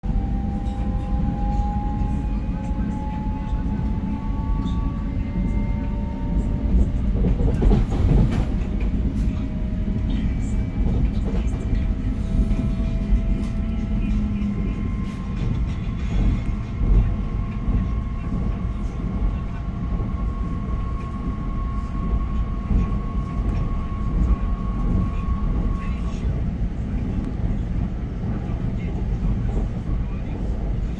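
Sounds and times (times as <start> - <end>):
train rumbling on rails: 0.0 - 30.9.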